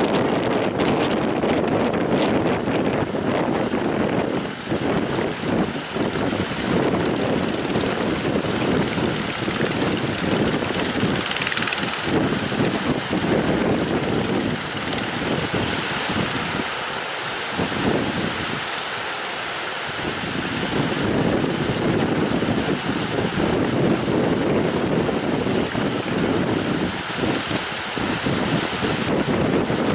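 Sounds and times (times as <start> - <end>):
wind buffeting microphone: 0.0 - 19.0, 19.9 - 29.9.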